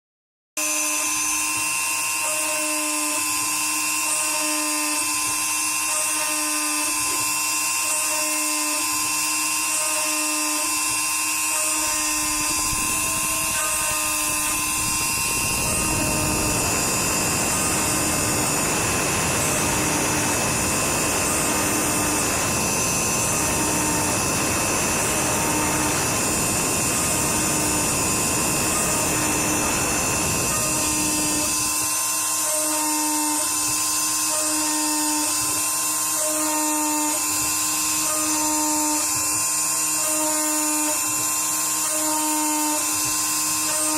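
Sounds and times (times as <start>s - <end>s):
machine high whine: 0.6s - 43.9s.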